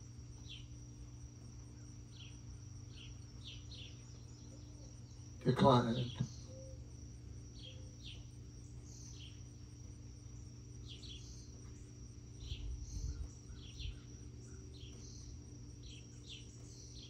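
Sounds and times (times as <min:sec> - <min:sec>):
high insect drone: 0:00.0 - 0:17.0
low steady hum: 0:00.0 - 0:17.0.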